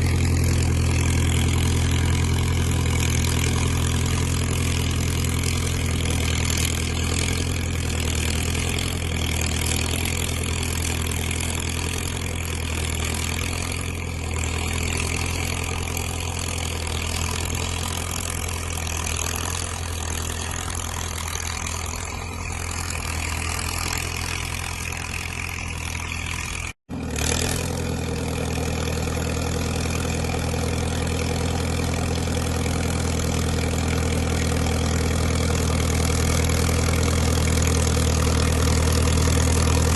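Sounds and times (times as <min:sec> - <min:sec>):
dozer diesel engine running: 0:00.0 - 0:39.9.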